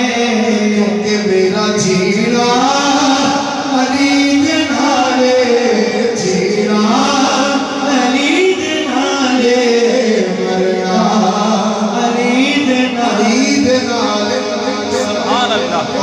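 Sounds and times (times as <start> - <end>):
men singing devotional song: 0.0 - 16.0.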